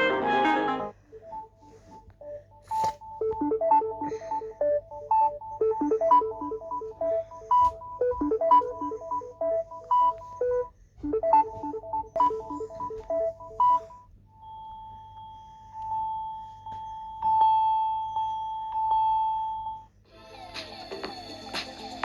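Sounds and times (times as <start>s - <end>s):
phone ringtone melody: 0.0s - 19.8s
ringtone long tone: 0.0s - 22.0s.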